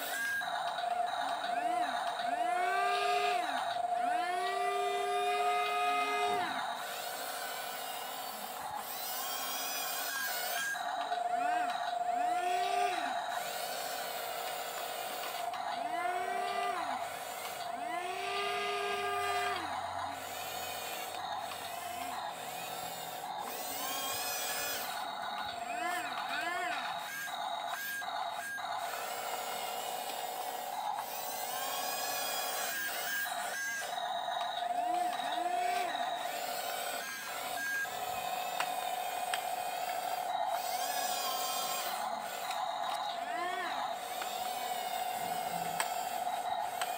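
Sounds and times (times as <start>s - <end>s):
toy motors and gearboxes whining: 0.0s - 46.9s.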